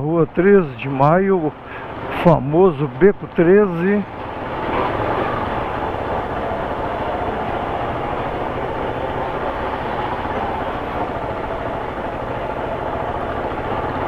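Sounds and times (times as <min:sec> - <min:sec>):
motorcycle running: 0:00.0 - 0:14.0.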